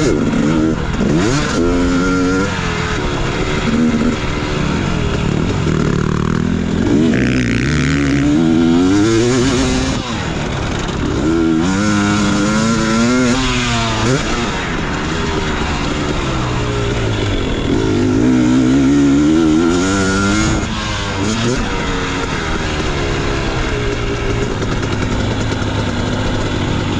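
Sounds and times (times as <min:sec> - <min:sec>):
motocross bike engine revving: 0:00.0 - 0:26.9.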